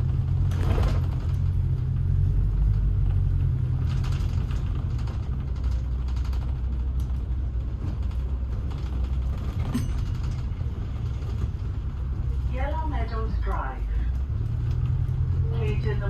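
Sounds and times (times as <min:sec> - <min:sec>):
vehicle engine rumble: 0:00.0 - 0:16.0
light rattles and clicks: 0:00.3 - 0:16.0.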